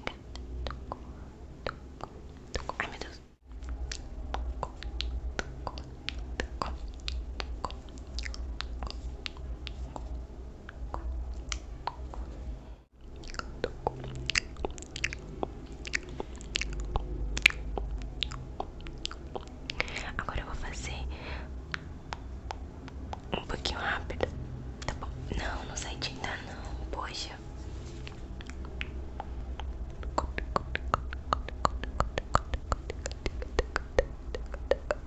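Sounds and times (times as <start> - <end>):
wet mouth clicks and smacks: 0.0 - 12.3, 13.1 - 20.8, 21.7 - 25.2, 28.0 - 35.0.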